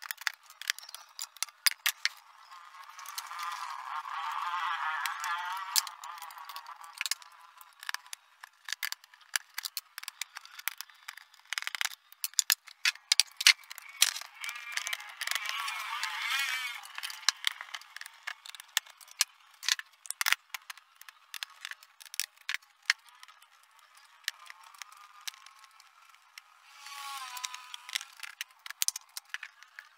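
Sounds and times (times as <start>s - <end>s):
plastic parts and tools rattling: 0.0s - 29.9s.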